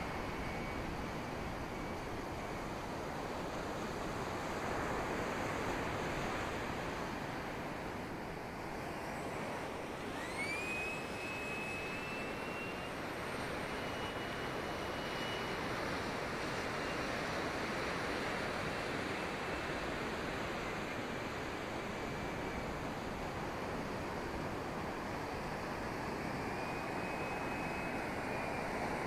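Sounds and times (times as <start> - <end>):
electric ducted fan whining: 0.0 - 29.0.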